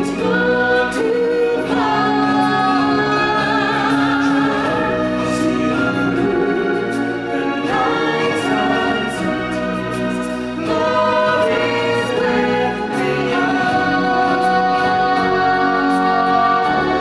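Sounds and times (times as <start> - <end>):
orchestral backing: 0.0 - 17.0
singers holding notes with vibrato: 0.0 - 17.0.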